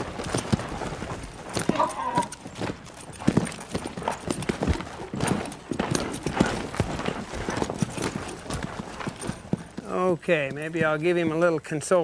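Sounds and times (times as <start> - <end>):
hooves striking ground: 0.0 - 12.0.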